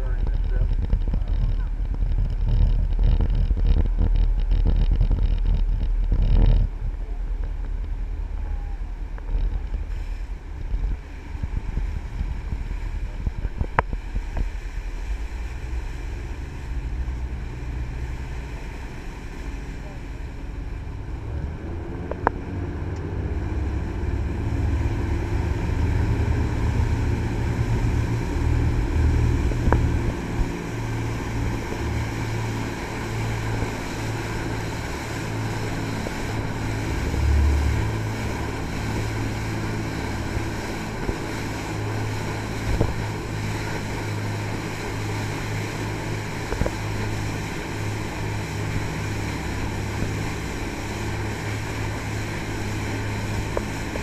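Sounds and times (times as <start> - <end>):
boat diesel engines droning: 0.0 - 54.0
water rushing: 0.0 - 54.0
wind: 0.0 - 54.0.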